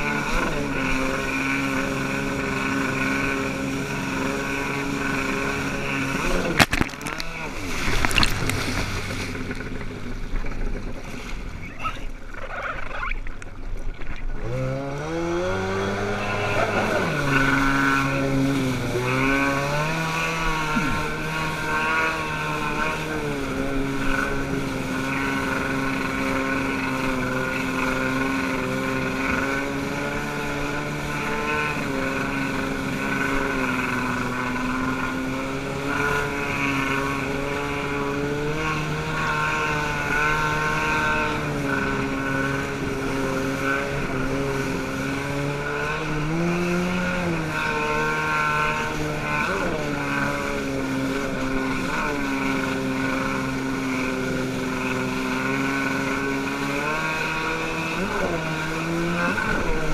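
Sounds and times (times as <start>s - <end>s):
jet ski engine revving: 0.0s - 59.9s
water rushing and splashing: 0.0s - 59.9s.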